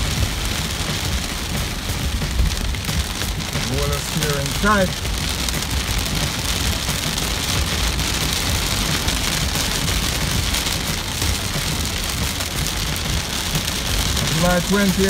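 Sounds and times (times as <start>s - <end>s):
car rumbling on wet road: 0.0s - 15.0s
heavy rain on car: 0.0s - 15.0s.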